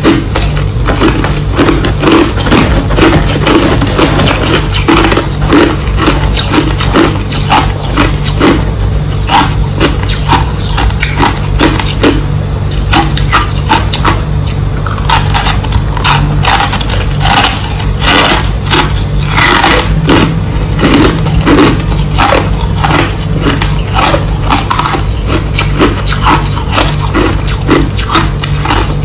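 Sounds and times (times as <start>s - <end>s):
crushed ice being chewed: 0.0s - 29.0s
steady low hum: 0.0s - 29.0s.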